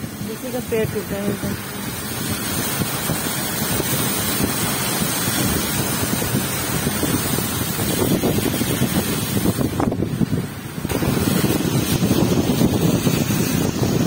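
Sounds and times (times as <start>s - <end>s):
tyres splashing through water: 0.0s - 14.0s
wind buffeting microphone: 0.0s - 14.0s.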